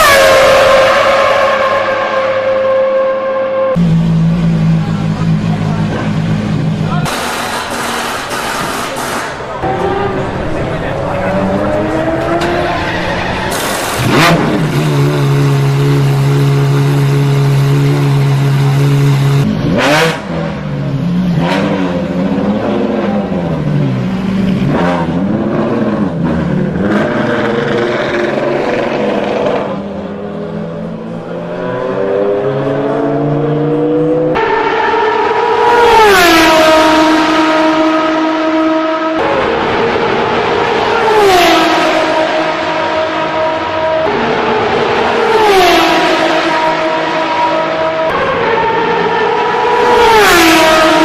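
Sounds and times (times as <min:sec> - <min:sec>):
racing car engine revving: 0:00.0 - 0:51.0.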